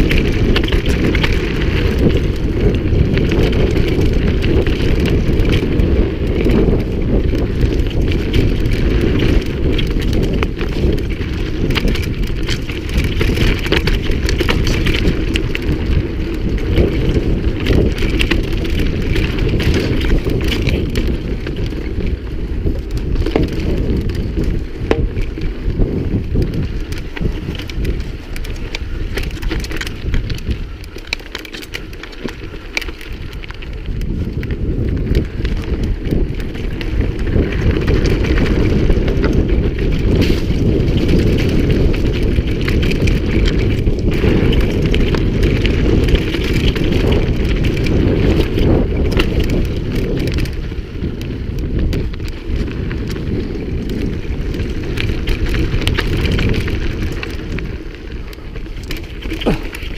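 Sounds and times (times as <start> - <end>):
bike clicks and rattles: 0.0 - 59.9
bike tyres rumbling on gravel: 0.0 - 59.9
wind noise on microphone: 0.0 - 59.9.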